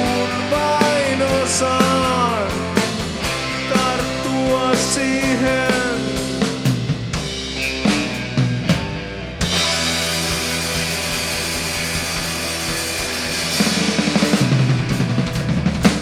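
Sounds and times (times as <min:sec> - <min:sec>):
rapid drum fill: 0:00.0 - 0:16.0
rock band holding a chord: 0:00.0 - 0:16.0.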